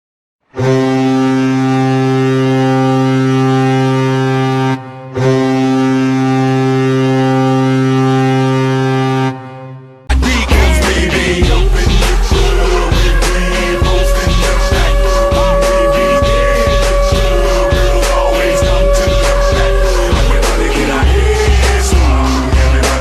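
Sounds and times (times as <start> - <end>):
music: 0.4 - 23.0
goal horn blasts: 0.5 - 9.9, 10.5 - 23.0.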